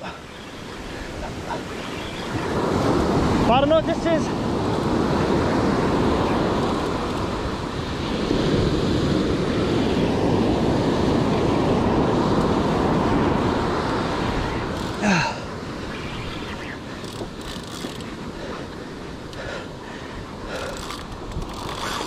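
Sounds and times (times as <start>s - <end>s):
ocean surf washing ashore: 0.0s - 22.0s
wind buffeting microphone: 0.6s - 22.0s.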